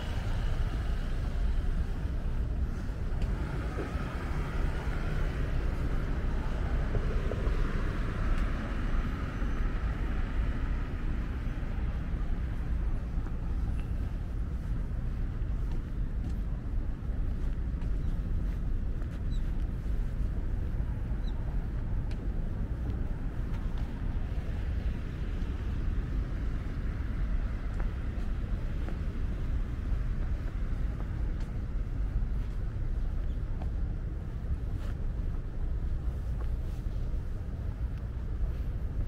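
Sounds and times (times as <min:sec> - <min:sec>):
distant road traffic: 0:00.0 - 0:39.0.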